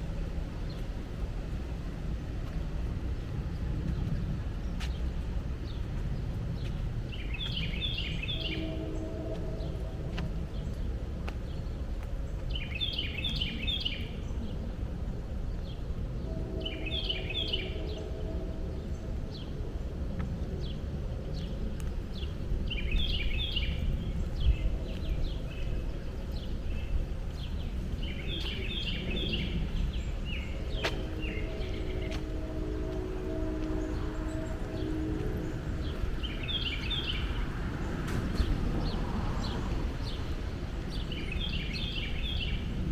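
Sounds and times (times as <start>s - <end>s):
songbird singing: 1.8s - 42.9s.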